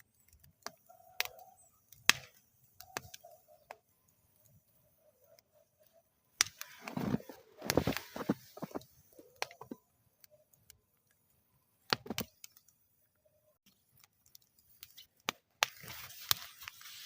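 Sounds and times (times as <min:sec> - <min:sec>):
campfire crackling: 0:00.0 - 0:17.0
soft hiss of burning: 0:00.0 - 0:17.0.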